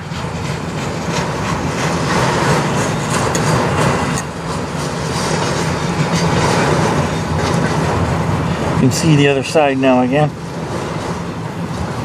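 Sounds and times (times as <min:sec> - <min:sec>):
gusty wind: 0:00.0 - 0:12.0
train wheels clattering over rails: 0:00.0 - 0:12.0.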